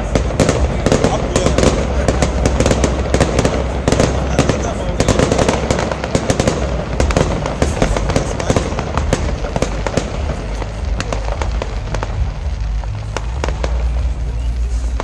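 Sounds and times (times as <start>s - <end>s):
fireworks crackling and popping: 0.0s - 15.0s
low rumble: 0.0s - 15.0s.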